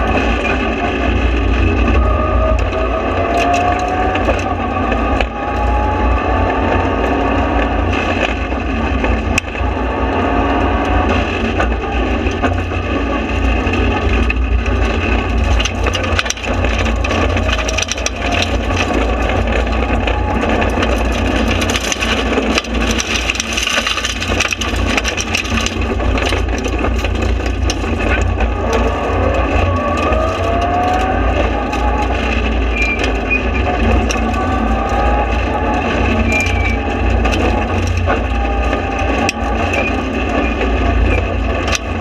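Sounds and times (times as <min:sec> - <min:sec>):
gravel pelting car underbody: 0:00.0 - 0:42.0
rally car engine revving: 0:00.0 - 0:42.0.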